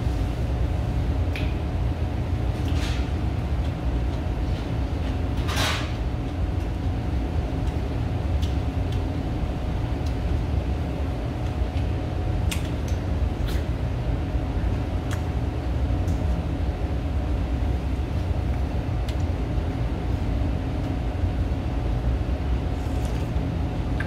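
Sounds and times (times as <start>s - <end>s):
restaurant room hum: 0.0s - 24.0s.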